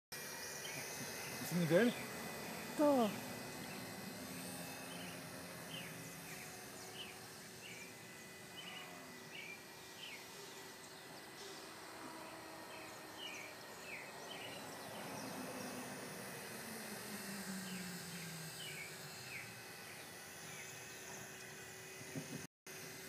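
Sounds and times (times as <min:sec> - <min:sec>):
faint outdoor hum: 0:00.2 - 0:23.0.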